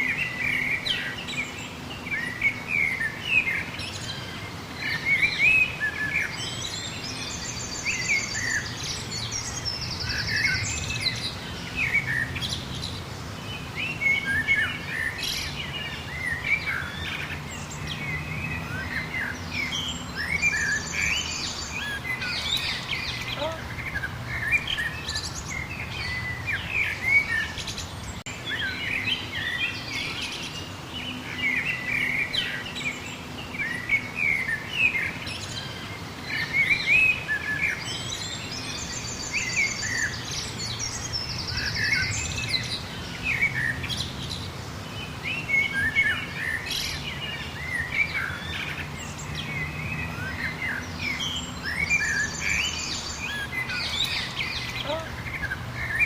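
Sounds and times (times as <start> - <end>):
wild birds chirping and whistling: 0.0 - 56.0.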